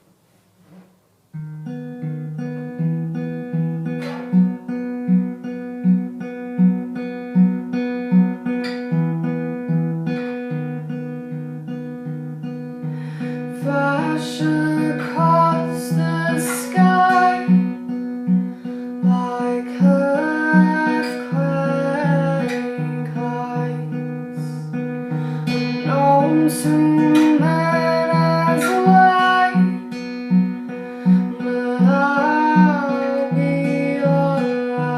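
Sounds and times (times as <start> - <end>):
acoustic guitar playing: 0.0 - 34.9.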